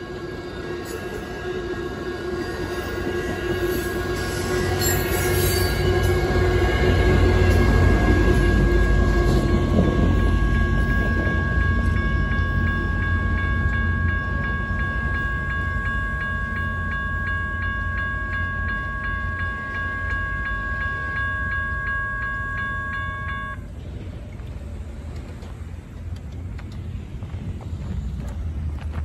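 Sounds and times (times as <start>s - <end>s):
crossing bell ringing: 0.0s - 23.8s.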